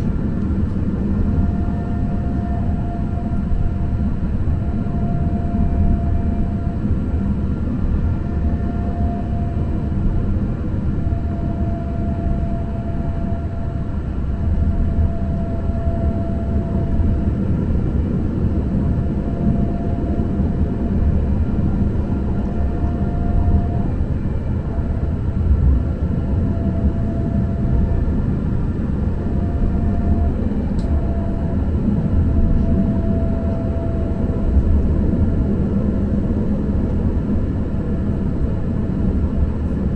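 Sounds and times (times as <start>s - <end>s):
light-rail train rumbling: 0.0s - 39.9s
faint high wavering tone: 1.2s - 25.3s, 26.1s - 28.4s, 29.2s - 34.8s.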